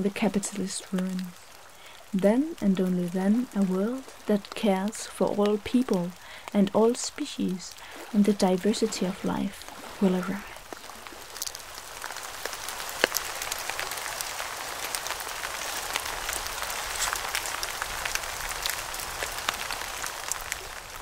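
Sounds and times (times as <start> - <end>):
rain-like patter: 0.0 - 21.0.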